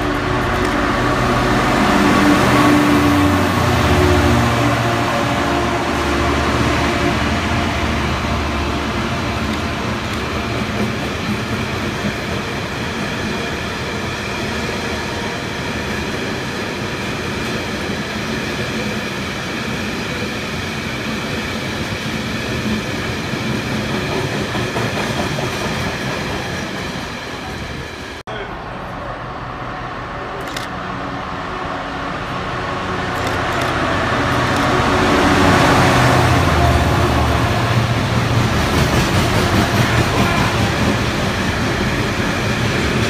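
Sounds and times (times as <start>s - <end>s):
locomotive engine: 0.0s - 43.0s
train wagons rumbling past: 0.0s - 43.0s.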